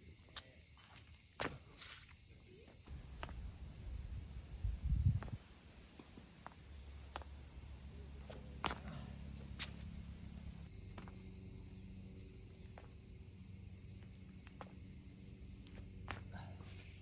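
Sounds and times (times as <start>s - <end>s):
high-pitched insect chirring: 0.0s - 17.0s.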